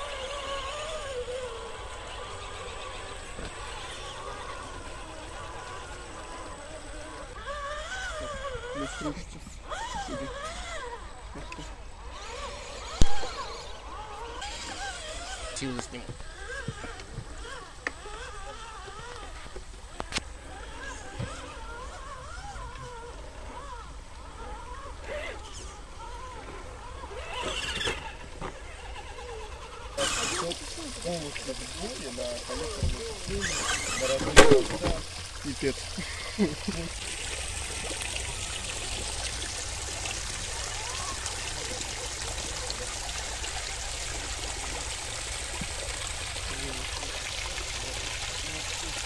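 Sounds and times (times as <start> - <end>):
creek trickling over stones: 0.0 - 11.3, 12.4 - 49.0
electric motor whining: 0.0 - 49.0.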